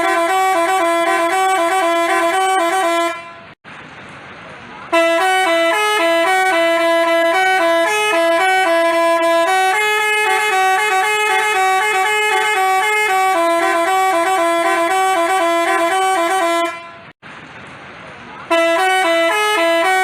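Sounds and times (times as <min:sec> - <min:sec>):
bus horn melody: 0:00.0 - 0:03.6, 0:04.9 - 0:17.2, 0:18.5 - 0:20.0.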